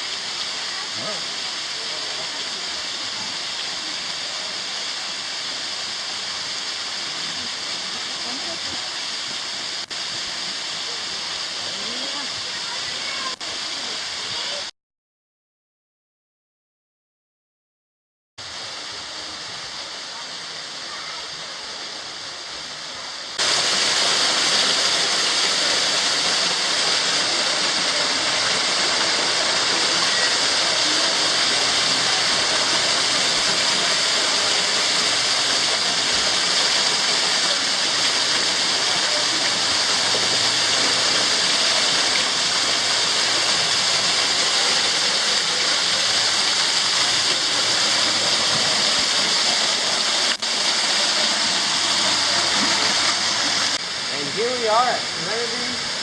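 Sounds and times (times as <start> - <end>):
waterfall rushing: 0.0 - 14.7, 18.4 - 56.0.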